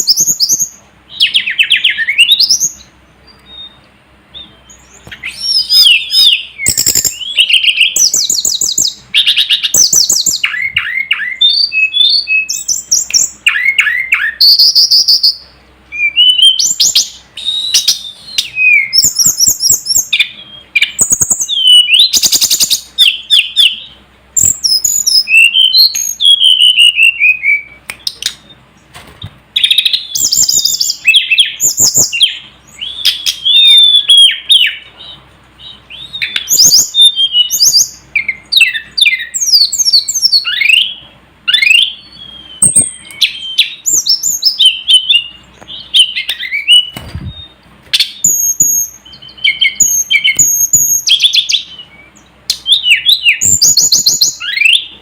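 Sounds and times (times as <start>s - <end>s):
bird whistling high phrases: 4.4s - 28.4s, 29.6s - 54.9s.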